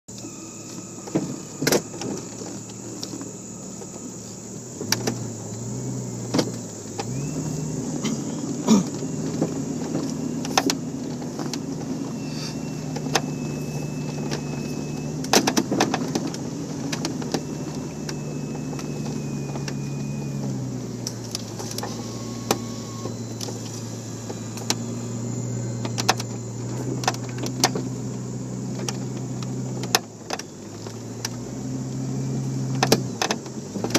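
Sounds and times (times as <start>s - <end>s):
off-road vehicle engine: 0.0s - 33.9s.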